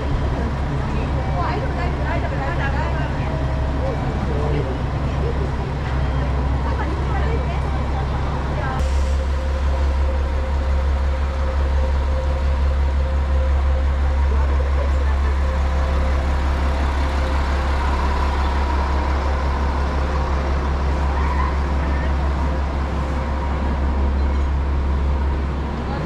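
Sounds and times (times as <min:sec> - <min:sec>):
diesel railcar engine idling: 0:00.0 - 0:26.0.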